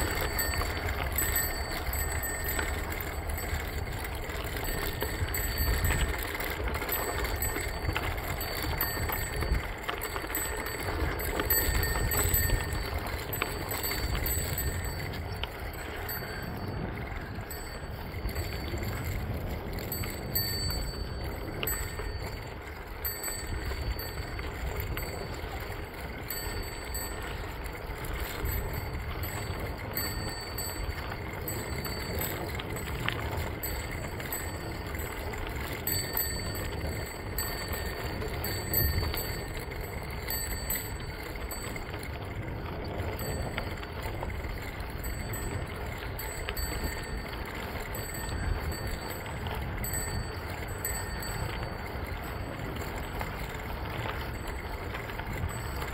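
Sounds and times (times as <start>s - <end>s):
bicycle tyres on gravel: 0.0s - 55.9s.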